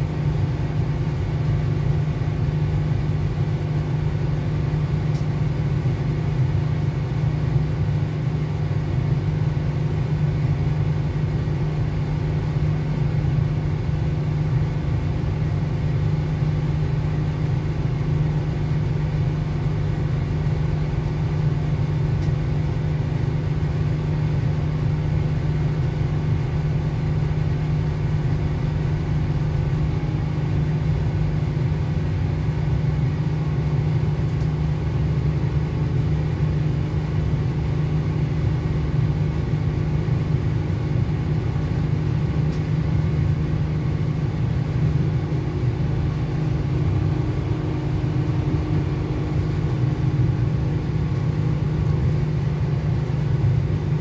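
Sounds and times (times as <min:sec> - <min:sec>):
train diesel engine rumble: 0:00.0 - 0:54.0.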